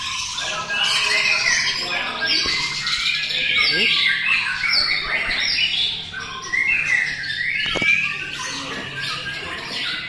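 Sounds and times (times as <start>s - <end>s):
birds whistling and trilling: 0.0s - 10.0s.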